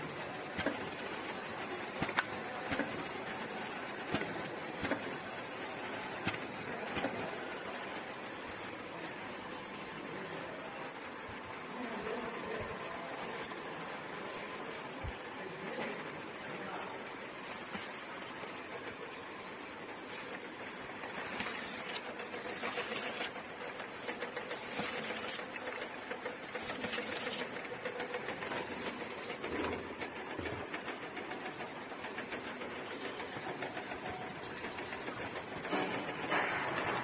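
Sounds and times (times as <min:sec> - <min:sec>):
bottling machine clatter: 0:00.0 - 0:11.2, 0:15.8 - 0:37.0.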